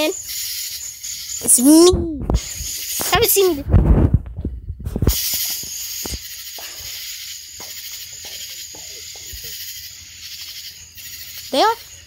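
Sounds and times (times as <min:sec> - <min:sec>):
firework hissing: 0:00.0 - 0:03.6, 0:04.9 - 0:11.2.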